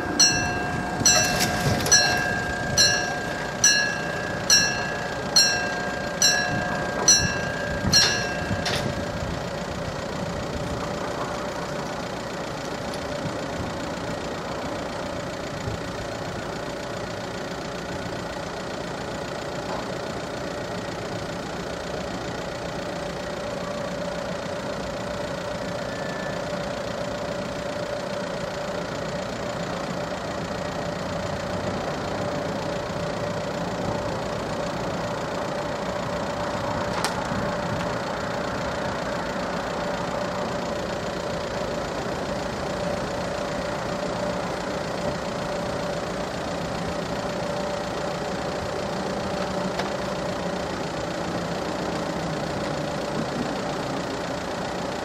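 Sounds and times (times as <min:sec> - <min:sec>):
constant mid-pitched tone: 0:00.0 - 0:55.0
steady mechanical hum: 0:00.0 - 0:55.0.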